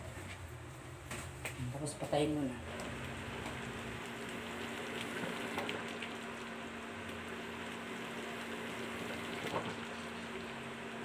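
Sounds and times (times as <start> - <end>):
pot simmering and bubbling: 1.8 - 11.0.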